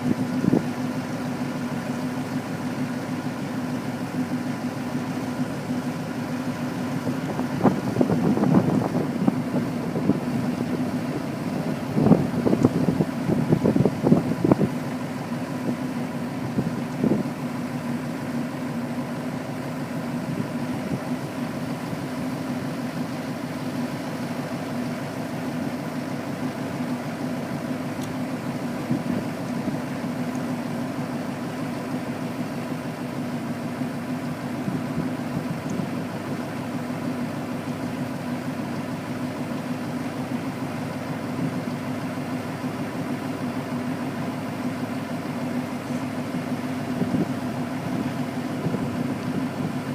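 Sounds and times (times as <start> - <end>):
engine knocks: 0.0 - 49.9
truck engine idling: 0.0 - 49.9.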